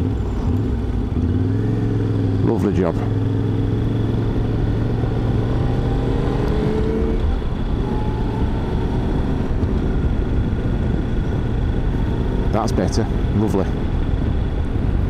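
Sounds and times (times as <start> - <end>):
motorcycle engine accelerating: 0.0 - 15.0
wind and road noise: 0.0 - 15.0.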